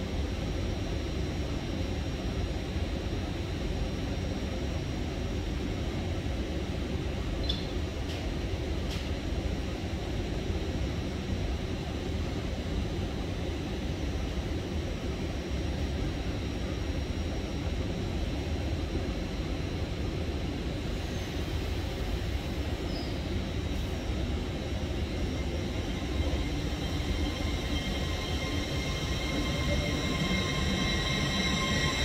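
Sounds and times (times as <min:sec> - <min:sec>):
electric train whine: 0:00.0 - 0:32.0
train low rumble: 0:00.0 - 0:32.0.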